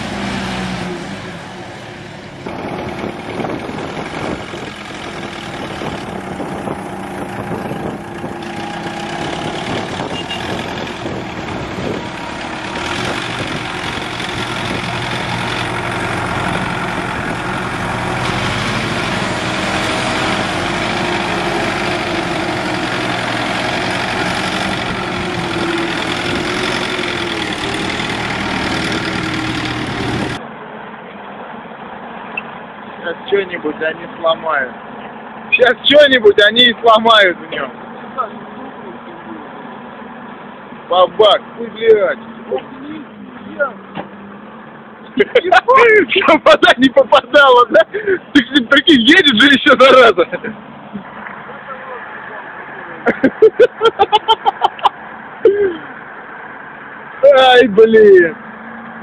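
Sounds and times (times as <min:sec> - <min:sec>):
tractor engines running under load: 0:00.0 - 0:59.0.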